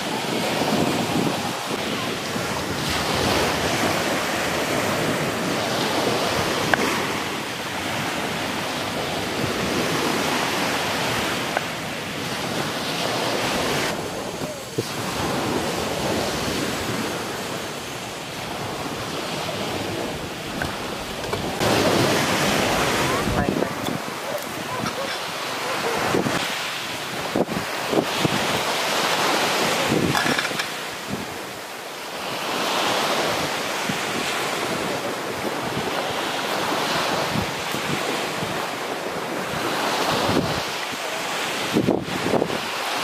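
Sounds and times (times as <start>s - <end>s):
surf breaking on beach: 0.0s - 43.0s
wind: 0.0s - 43.0s.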